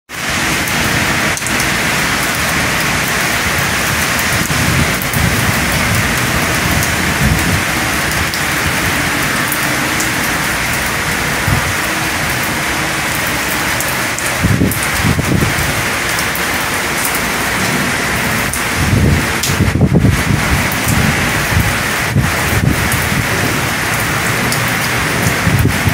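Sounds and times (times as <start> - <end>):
heavy rain pouring: 0.1 - 25.9
raindrops ticking close by: 0.1 - 25.9
low thunder rumbles: 0.2 - 25.9.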